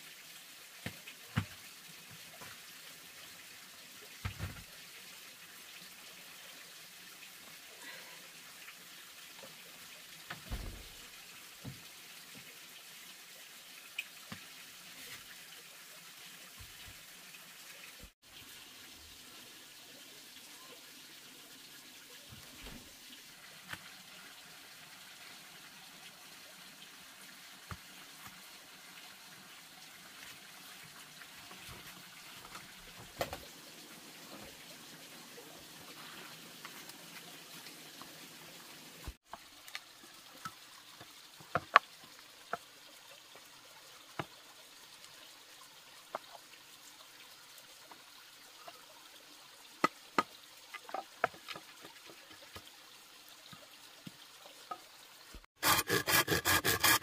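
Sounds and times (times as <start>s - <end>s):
trickling water: 0.0s - 57.0s.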